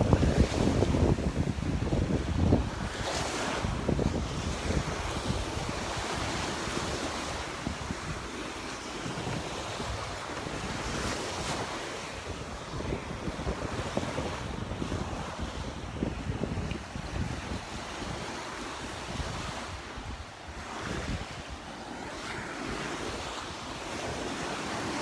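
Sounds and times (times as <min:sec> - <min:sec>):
surf washing onto beach: 0:00.0 - 0:25.0
wind buffeting microphone: 0:00.0 - 0:25.0.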